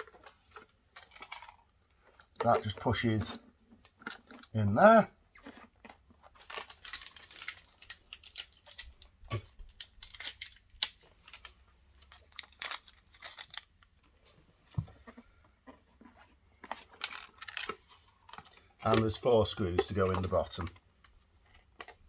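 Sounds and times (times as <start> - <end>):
plastic parts clicking and scraping: 0.0 - 4.5, 5.5 - 22.0.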